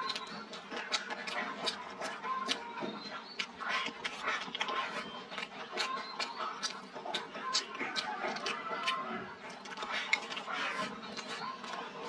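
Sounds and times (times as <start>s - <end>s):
person chewing and slurping: 0.0s - 12.0s.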